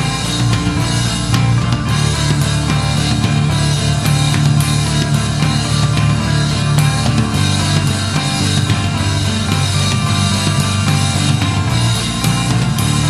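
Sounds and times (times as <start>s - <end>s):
progressive rock music: 0.0s - 13.0s.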